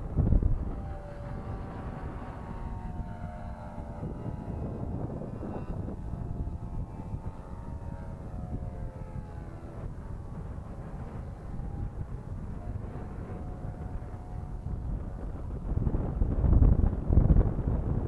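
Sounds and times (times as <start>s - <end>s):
model airplane engine buzzing: 0.0s - 18.0s
wind rumble on microphone: 0.0s - 18.0s.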